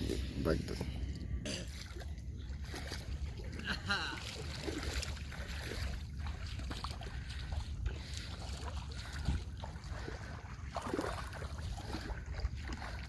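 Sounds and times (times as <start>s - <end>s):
river water lapping and splashing: 0.0s - 13.0s
wind rumbling on microphone: 0.0s - 13.0s.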